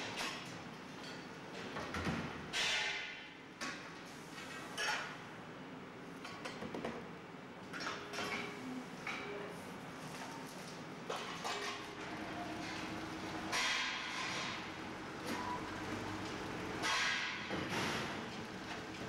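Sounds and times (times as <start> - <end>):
steady factory background noise: 0.0 - 19.0.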